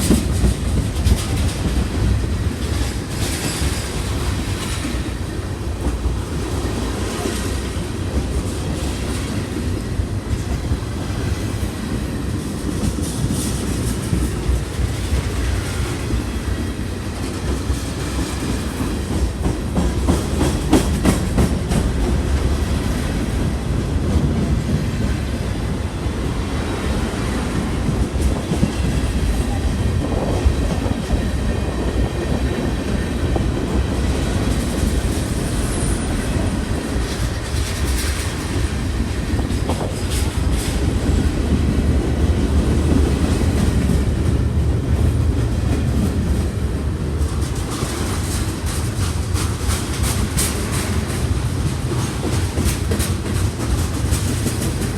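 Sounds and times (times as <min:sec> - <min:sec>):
train rumble: 0:00.0 - 0:54.9
train wheels clacking: 0:00.0 - 0:54.9.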